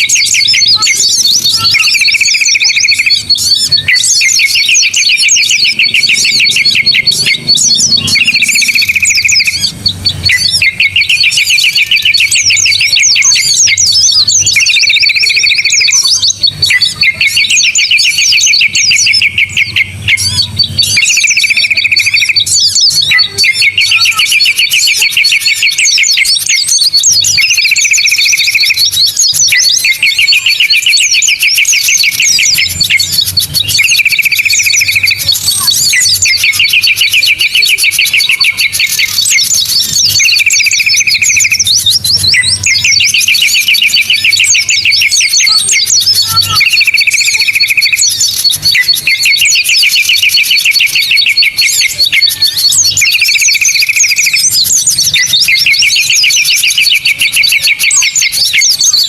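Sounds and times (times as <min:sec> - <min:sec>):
bird ticking call: 0:00.0 - 0:59.0
buzzy bird trill: 0:00.0 - 0:59.0
small birds chirping: 0:00.0 - 0:59.0.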